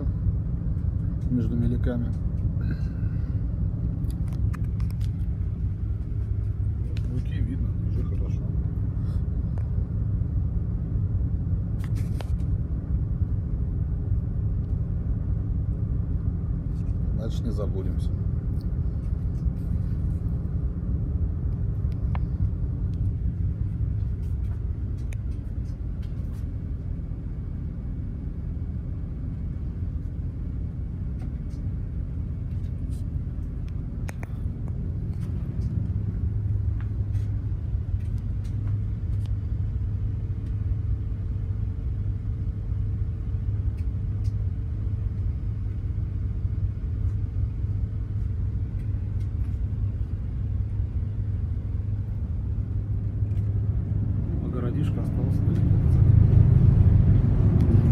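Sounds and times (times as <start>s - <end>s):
faint steady hum: 0.0s - 57.9s
ship engine rumble: 0.0s - 57.9s.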